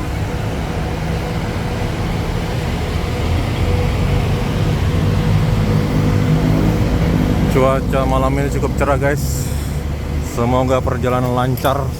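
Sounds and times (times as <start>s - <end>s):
diesel bus engine idling: 0.0s - 11.9s.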